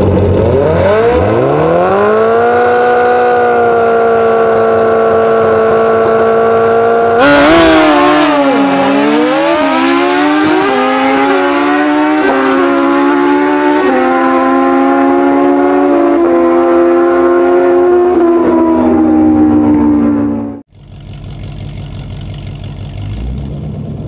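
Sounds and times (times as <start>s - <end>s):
motorcycles accelerating with upshifts: 0.0s - 23.8s
motorcycle engines revving: 0.0s - 24.0s.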